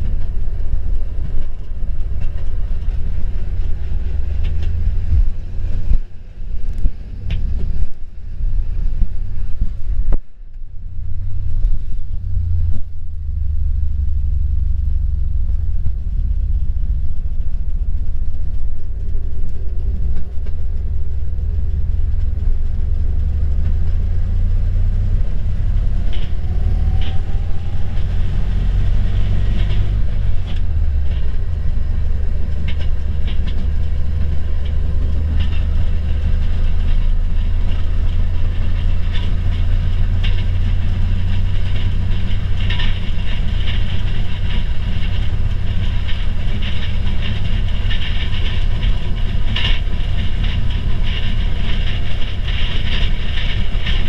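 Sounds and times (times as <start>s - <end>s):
railcar engine drone: 0.0s - 54.0s
wheels clicking over rails: 0.0s - 54.0s.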